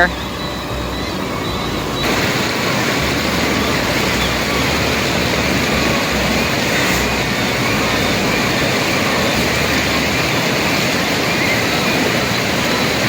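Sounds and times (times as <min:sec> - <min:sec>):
low rumble: 0:00.0 - 0:12.9
rushing water pouring: 0:02.0 - 0:13.0.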